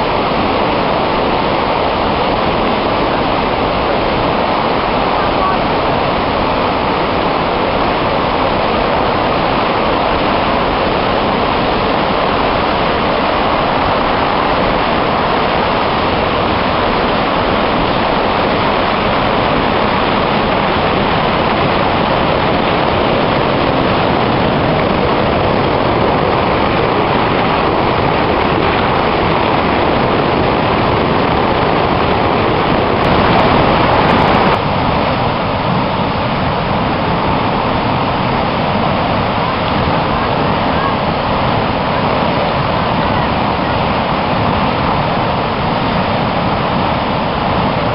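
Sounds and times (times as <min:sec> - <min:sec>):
river in flood rushing: 0:00.0 - 0:47.9.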